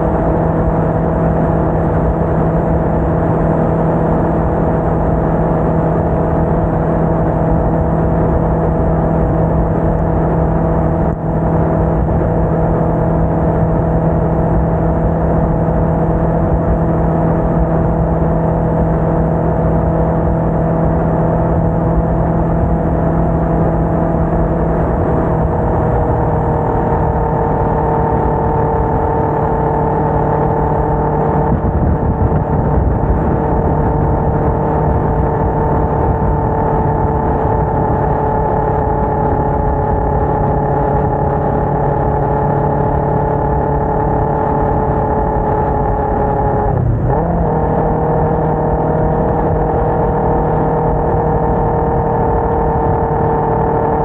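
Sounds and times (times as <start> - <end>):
heavy wind noise: 0.0 - 54.0
motorcycle engine cruising: 0.0 - 54.0.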